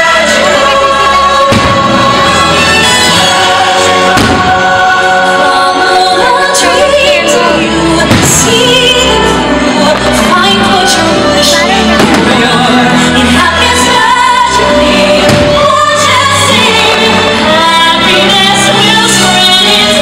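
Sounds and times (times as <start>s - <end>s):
music with singing over speakers: 0.0s - 20.0s.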